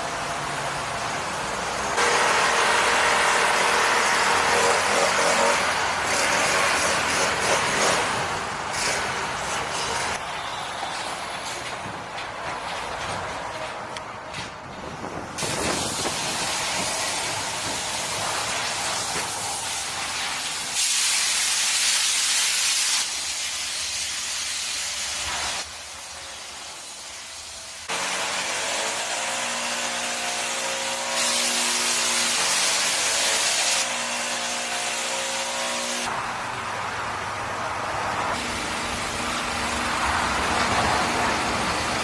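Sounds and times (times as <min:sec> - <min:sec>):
road-repair machinery hissing: 0:00.0 - 0:12.2, 0:14.8 - 0:42.0.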